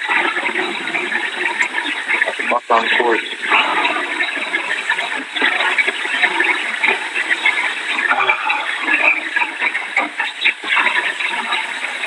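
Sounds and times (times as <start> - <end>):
heavy rain rushing: 0.0 - 9.7.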